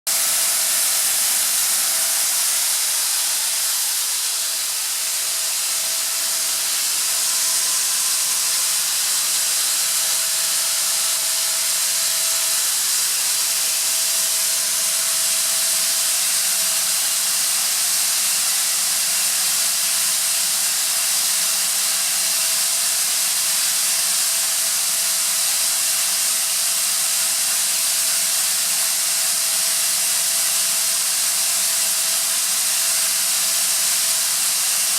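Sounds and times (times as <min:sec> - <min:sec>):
air compressor hissing: 0:00.1 - 0:34.9.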